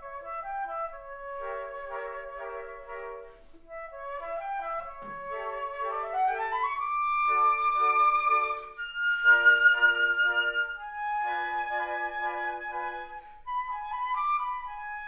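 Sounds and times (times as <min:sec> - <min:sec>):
flutes playing chamber music: 0:00.0 - 0:15.0.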